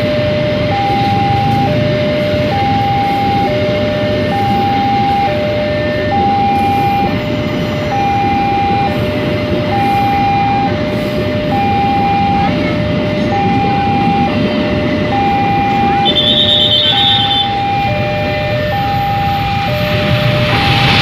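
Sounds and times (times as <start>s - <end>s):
train passing rumble: 0.0s - 21.0s
two-tone crossing alarm: 0.0s - 21.0s.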